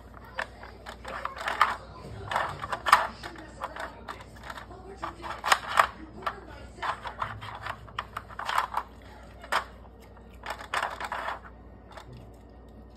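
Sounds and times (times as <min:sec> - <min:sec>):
plastic puzzle feeder clacking: 0:00.0 - 0:12.1.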